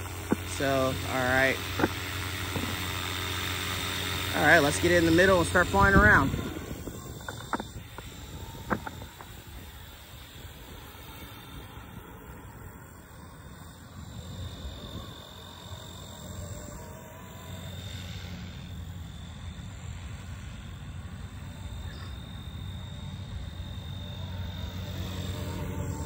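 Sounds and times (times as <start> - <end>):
helicopter rotor hum: 0.0 - 26.0
high motor whine: 0.0 - 26.0.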